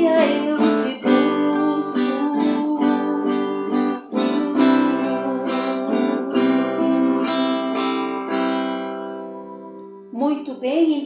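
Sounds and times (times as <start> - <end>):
acoustic guitar strumming chords: 0.0 - 10.2.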